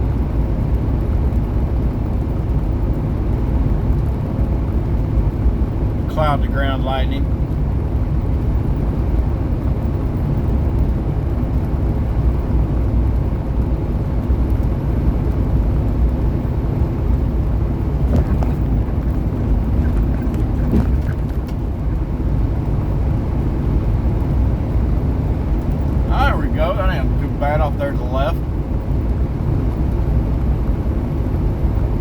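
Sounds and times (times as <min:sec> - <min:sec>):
road noise: 0:00.0 - 0:32.0
truck engine drone: 0:00.0 - 0:32.0.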